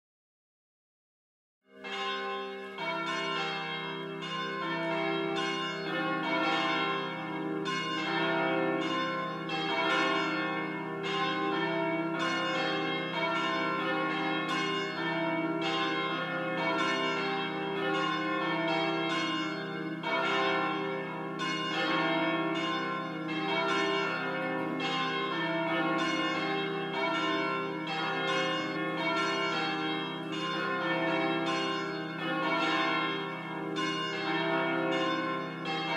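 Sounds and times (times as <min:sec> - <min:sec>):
church bells pealing: 0:01.7 - 0:35.9.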